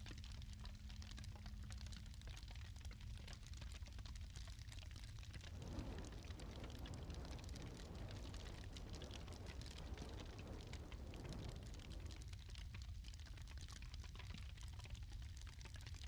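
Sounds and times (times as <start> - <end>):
low steady rumble: 0.0 - 16.0
wood fire crackling: 0.2 - 16.0.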